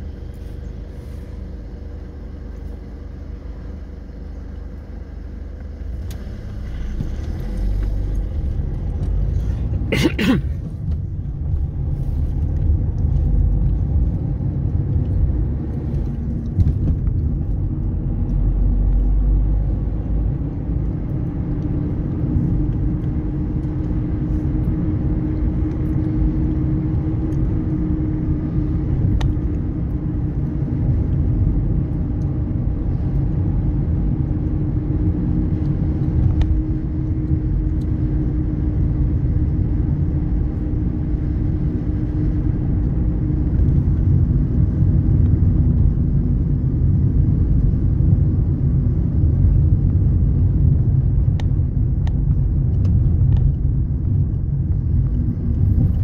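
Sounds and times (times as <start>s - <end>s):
car engine and tyre rumble: 0.0s - 56.0s
low steady hum: 0.0s - 56.0s.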